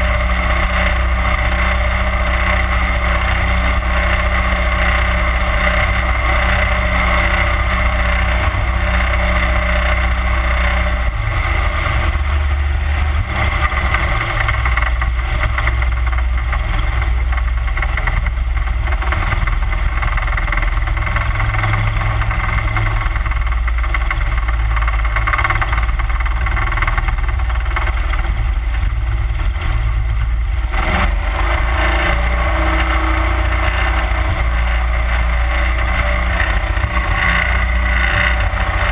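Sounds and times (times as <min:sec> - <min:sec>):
boat motor running: 0:00.0 - 0:38.9.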